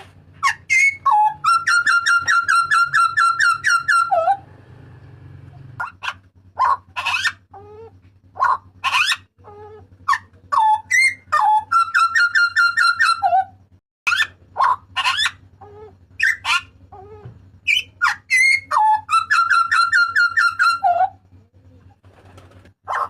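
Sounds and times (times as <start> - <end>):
bird calling ringing notes: 0.3 - 4.5, 5.6 - 21.2.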